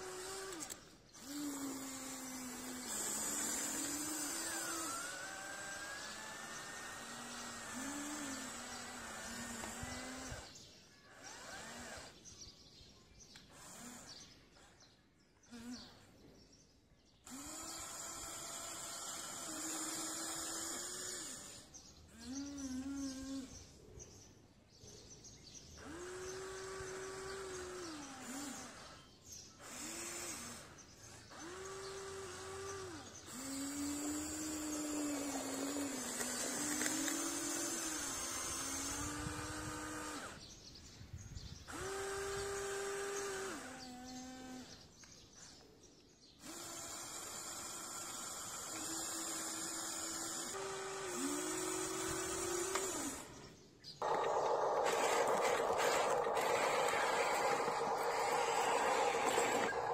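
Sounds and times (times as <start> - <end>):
electric motors whining: 0.0 - 12.2, 13.4 - 14.7, 17.3 - 23.6, 25.8 - 40.4, 41.7 - 44.8, 46.4 - 59.9.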